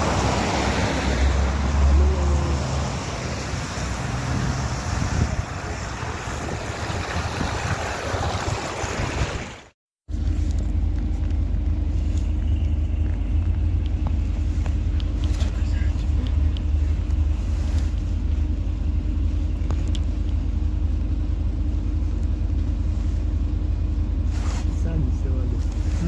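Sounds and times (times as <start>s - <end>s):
bus road and engine noise: 0.0s - 26.0s.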